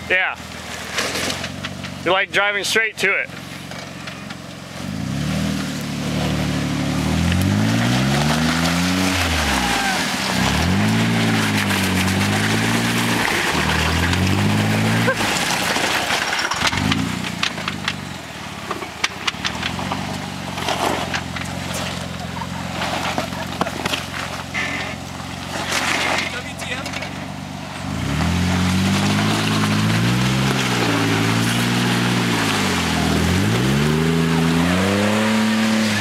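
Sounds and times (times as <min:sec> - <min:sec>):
gravel crackling under tyres: 0:00.0 - 0:36.0
car engine revving under load: 0:03.3 - 0:36.0.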